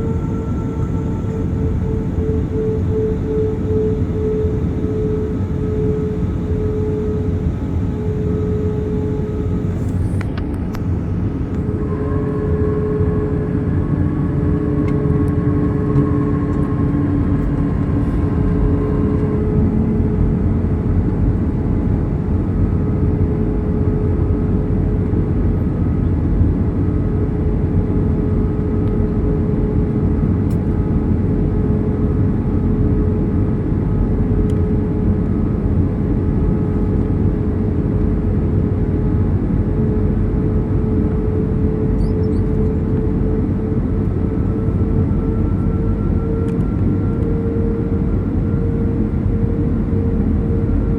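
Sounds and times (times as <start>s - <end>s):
faint hum-like tone: 0.0s - 50.9s.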